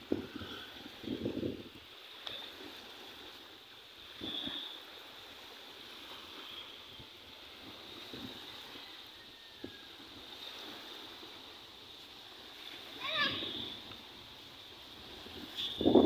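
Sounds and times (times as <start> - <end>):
waves lapping on beach: 0.0 - 16.0.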